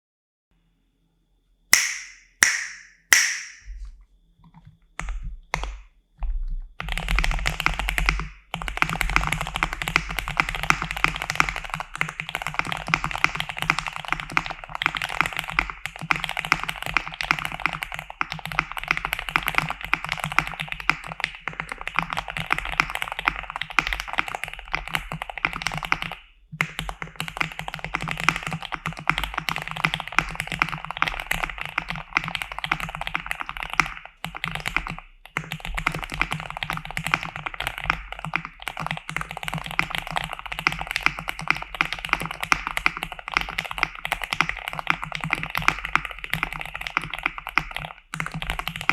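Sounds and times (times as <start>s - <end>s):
mechanical keyboard typing: 6.8s - 48.9s.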